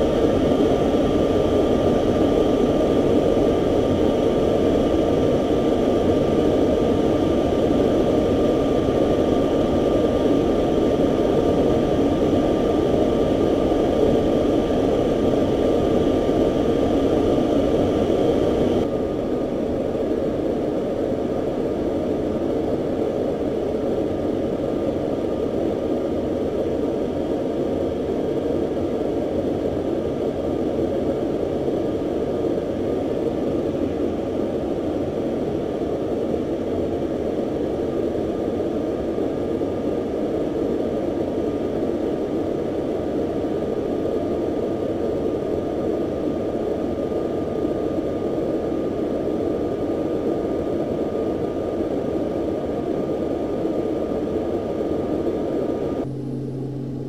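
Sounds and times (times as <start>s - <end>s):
faint steady whine: 0.0s - 57.0s
jet engine and airflow noise: 0.0s - 57.0s.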